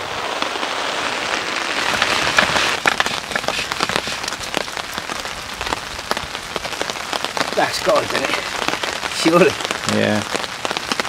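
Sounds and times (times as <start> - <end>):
heavy rain on a tarp: 0.0 - 11.0.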